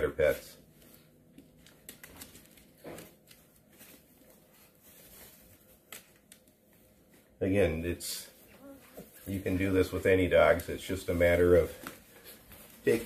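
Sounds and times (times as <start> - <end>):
faint rustling on paper bedding: 0.2 - 13.0.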